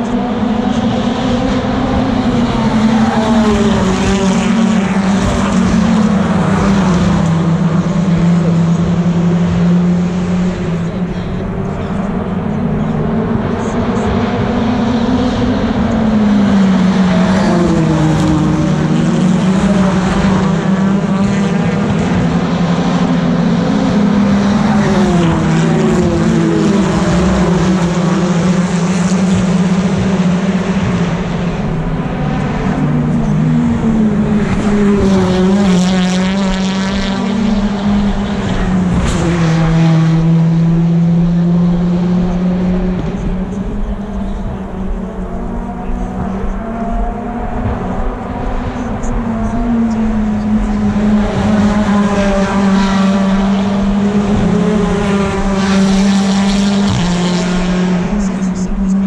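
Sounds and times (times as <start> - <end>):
racing car engines passing: 0.0 - 59.0.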